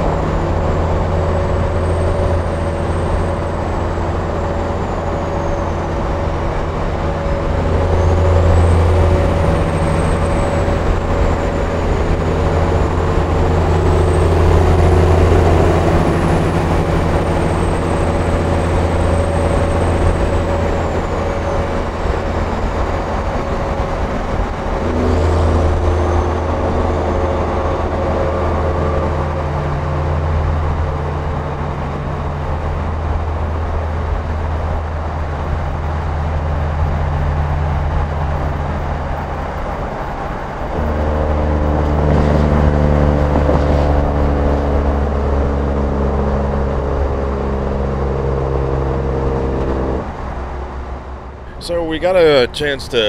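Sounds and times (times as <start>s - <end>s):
diesel truck engine at speed: 0.0s - 53.0s.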